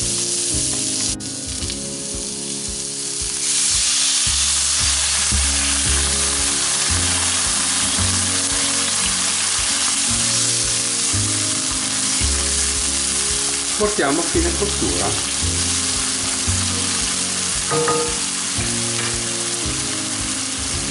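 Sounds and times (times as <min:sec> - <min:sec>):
vegetables frying in oil: 0:00.0 - 0:20.9
water sizzling in hot oil: 0:00.0 - 0:20.9.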